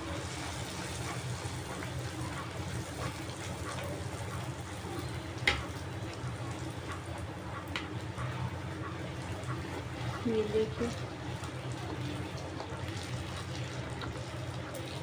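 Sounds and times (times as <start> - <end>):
deep-frying sizzling and bubbling: 0.0 - 15.0.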